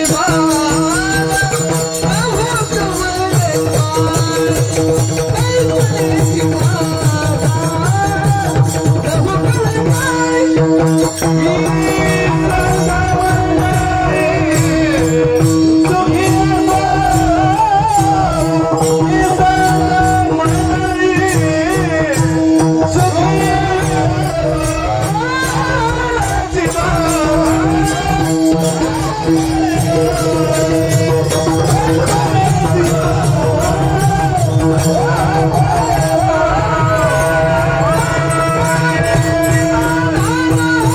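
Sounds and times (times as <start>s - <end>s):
hand cymbals: 0.0s - 40.9s
held accompanying notes: 0.0s - 40.9s
man singing: 0.0s - 40.9s.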